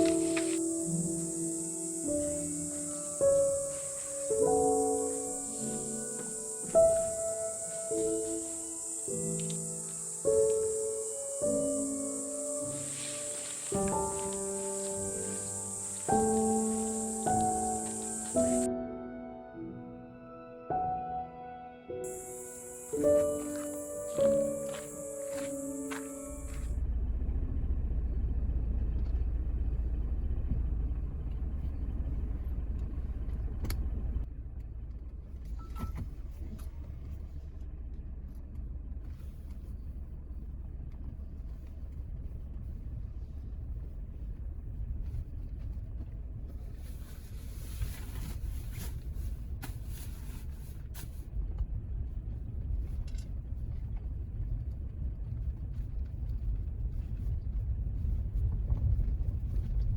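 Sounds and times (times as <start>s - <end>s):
car engine and tyres rumbling: 0.0s - 18.7s, 22.0s - 59.9s.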